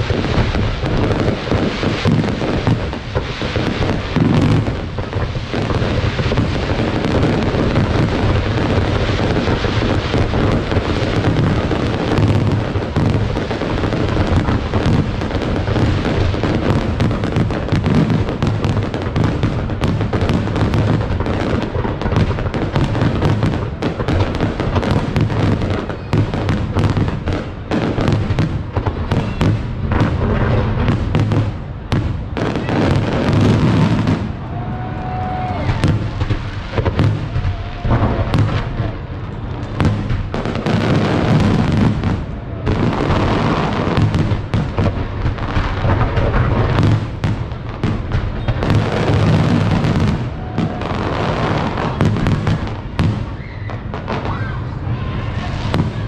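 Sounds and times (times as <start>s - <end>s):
fireworks bangs and crackling pops: 0.0s - 56.0s.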